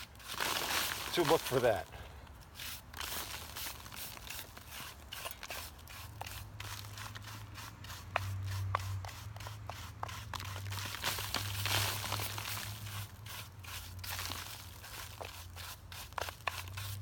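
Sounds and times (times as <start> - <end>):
gravel crunching and scraping: 0.0 - 17.0.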